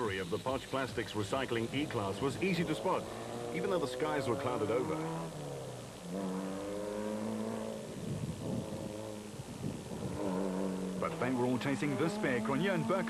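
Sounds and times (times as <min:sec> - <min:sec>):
pickup engine running hard: 0:01.1 - 0:13.0.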